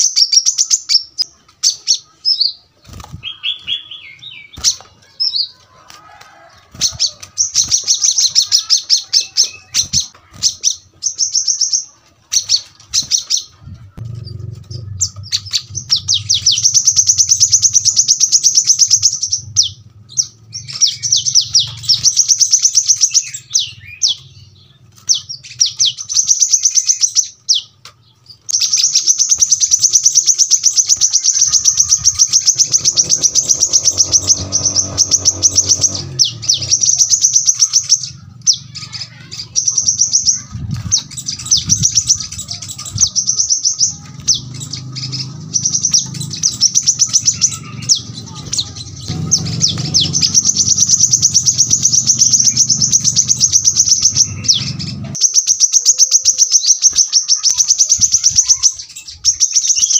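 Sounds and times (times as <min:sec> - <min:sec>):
bird rapid high chirps: 0:00.0 - 0:05.6, 0:06.3 - 0:59.9.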